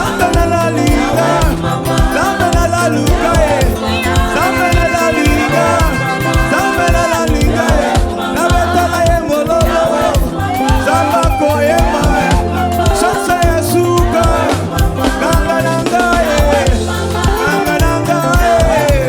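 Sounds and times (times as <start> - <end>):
gospel worship band music: 0.0 - 19.0.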